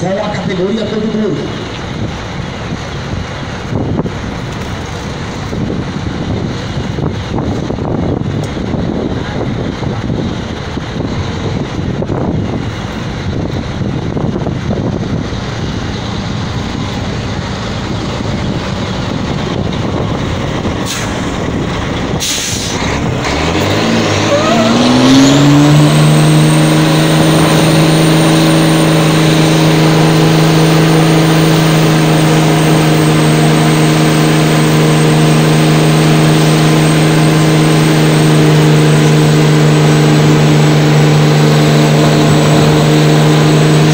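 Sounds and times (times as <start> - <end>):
diesel truck engine revving: 0.0 - 43.9
distant engine noise: 0.0 - 43.9
wind noise: 1.3 - 43.9.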